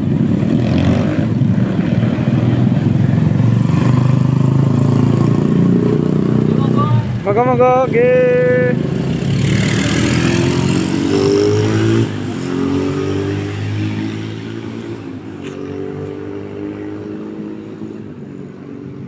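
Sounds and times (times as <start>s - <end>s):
motorcycle engine revving: 0.0s - 18.1s.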